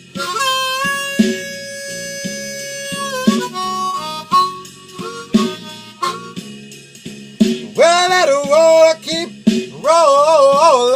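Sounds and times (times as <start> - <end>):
backing drums and bass: 0.0 - 10.9
harmonica blues fill: 0.0 - 10.9.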